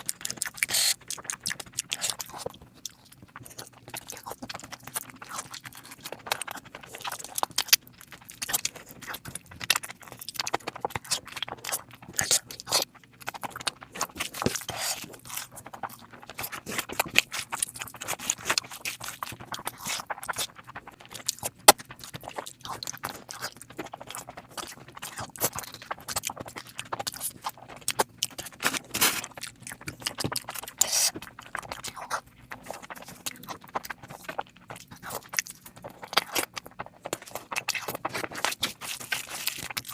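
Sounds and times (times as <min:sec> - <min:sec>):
close chewing and mouth smacks: 0:00.0 - 0:39.9.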